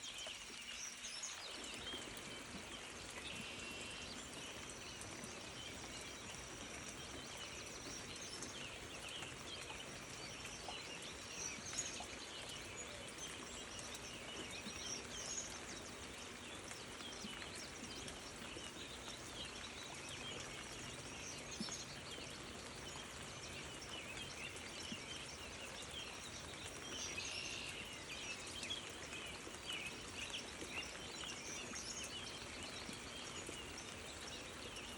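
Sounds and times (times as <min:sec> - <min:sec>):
faint outdoor hiss: 0:00.0 - 0:34.9
small birds chirping: 0:00.0 - 0:34.9.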